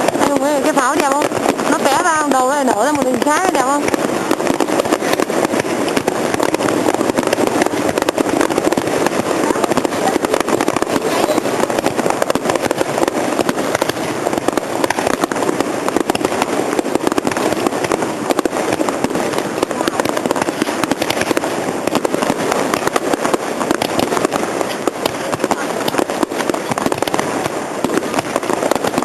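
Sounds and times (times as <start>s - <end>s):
fireworks crackling: 0.0s - 29.0s.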